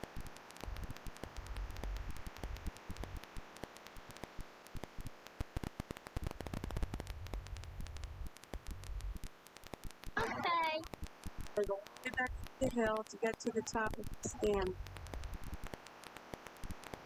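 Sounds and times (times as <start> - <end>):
crackling clicks: 0.0 - 17.0
steady hiss: 0.0 - 17.0.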